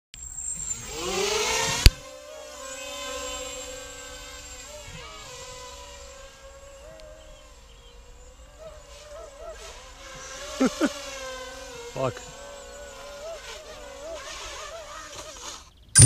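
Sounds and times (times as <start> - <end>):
quadcopter propeller whine: 0.2 - 16.0.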